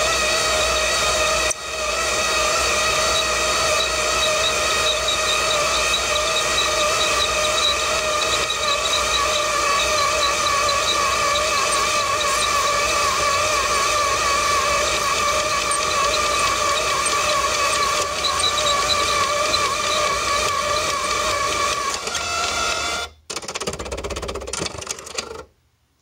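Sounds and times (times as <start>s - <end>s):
electric motor whine: 0.0s - 23.1s.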